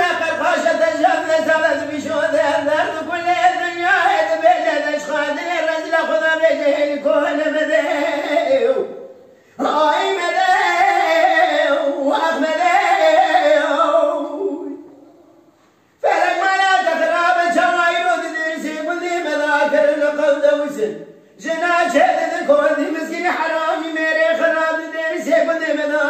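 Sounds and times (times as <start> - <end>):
man singing unaccompanied: 0.0 - 15.3, 16.0 - 26.0.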